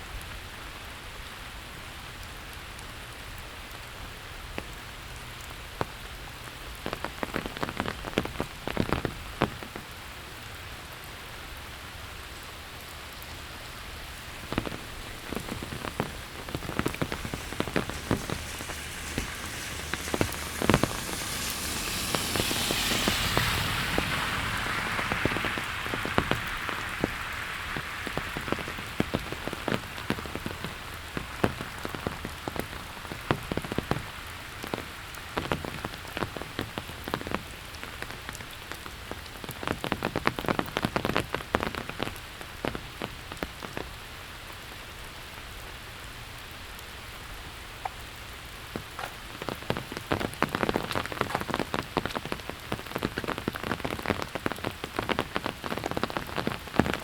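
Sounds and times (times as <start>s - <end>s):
rain falling: 0.0s - 57.0s
sharp raindrop taps: 5.4s - 43.9s, 47.8s - 57.0s.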